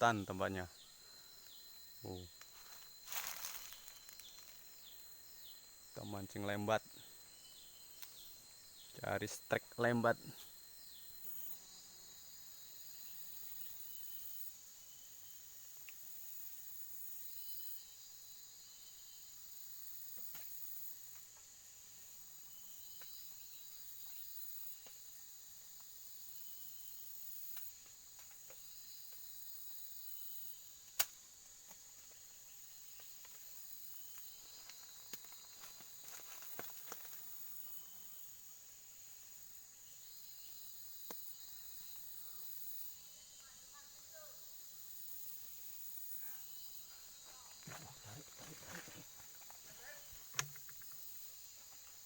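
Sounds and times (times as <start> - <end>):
insect chirps: 0.0 - 52.0
insects droning: 0.0 - 52.0.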